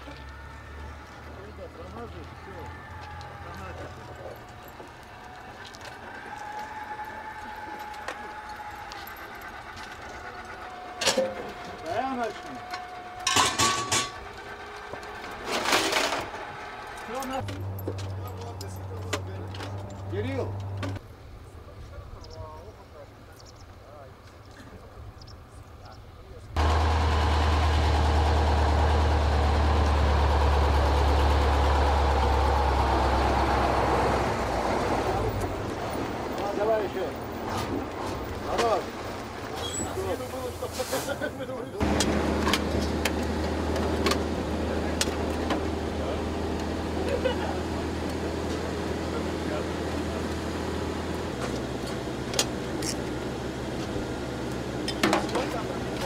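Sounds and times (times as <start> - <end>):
heavy truck engine droning: 0.0 - 21.0, 26.6 - 56.0.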